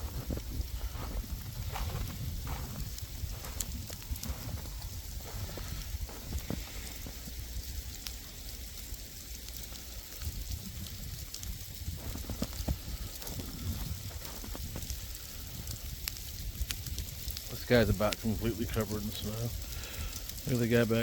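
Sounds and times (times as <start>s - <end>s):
steady low rumble: 0.0s - 20.7s
sleet pellets ticking on snow: 0.0s - 21.0s.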